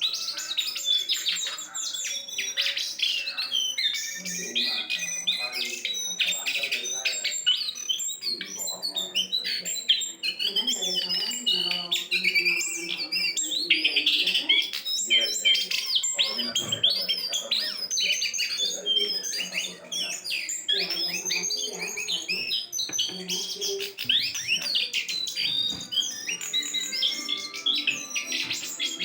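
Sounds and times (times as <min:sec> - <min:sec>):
bird chattering and whistling: 0:00.0 - 0:29.0.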